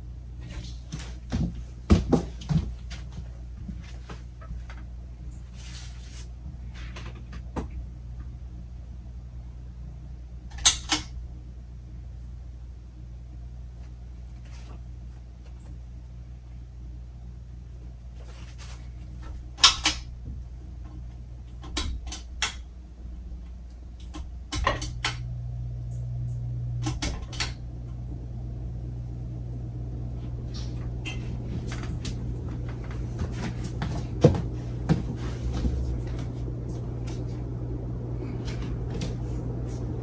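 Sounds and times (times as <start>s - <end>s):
ceiling fan motor hum: 0.0s - 40.0s.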